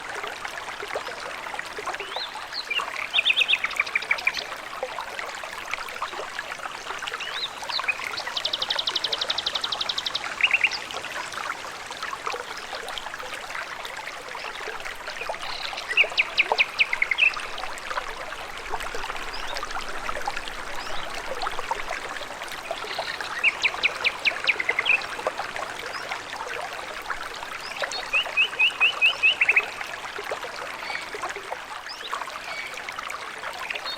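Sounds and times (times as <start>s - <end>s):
stream trickling: 0.0s - 33.9s.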